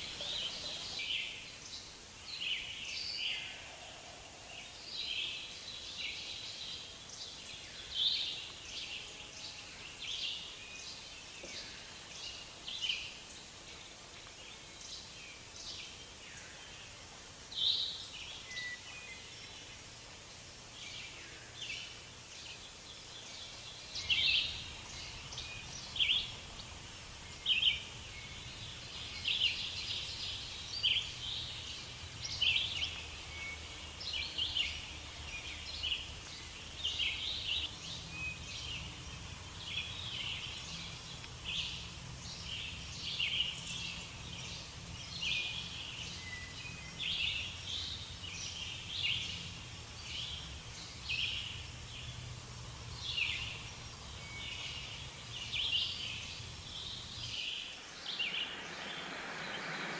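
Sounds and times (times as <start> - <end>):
background hiss: 0.0 - 59.9
small birds chirping: 0.0 - 59.9.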